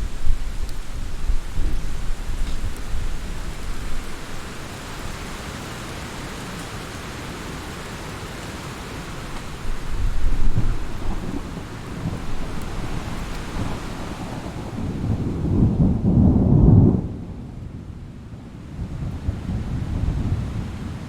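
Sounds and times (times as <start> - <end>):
thunder rumbling: 0.0 - 5.1, 9.2 - 21.0
steady rain: 0.0 - 21.0.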